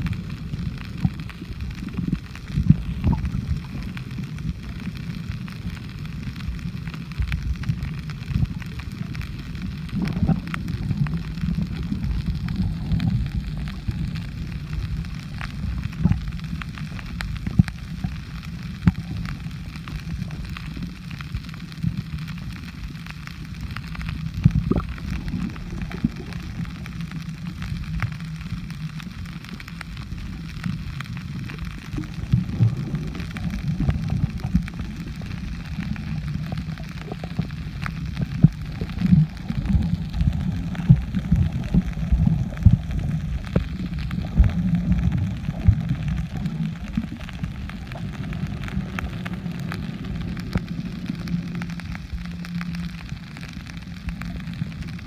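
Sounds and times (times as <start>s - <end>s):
underwater crackles and knocks: 0.0s - 55.0s
underwater rumble of moving water: 0.0s - 55.0s.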